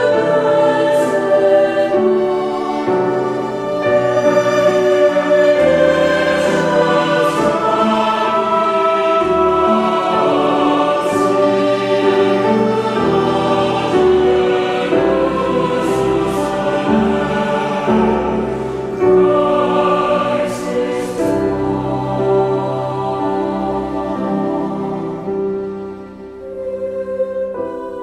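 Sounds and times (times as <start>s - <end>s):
choir singing a carol: 0.0s - 28.0s.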